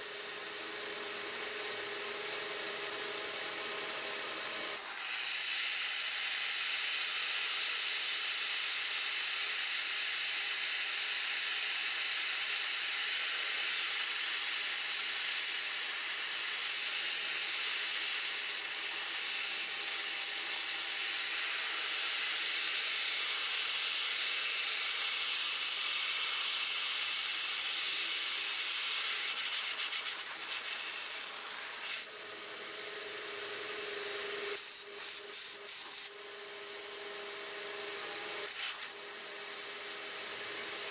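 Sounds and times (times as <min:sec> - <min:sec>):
metal lathe cutting hiss and whine: 0:00.0 - 0:40.9.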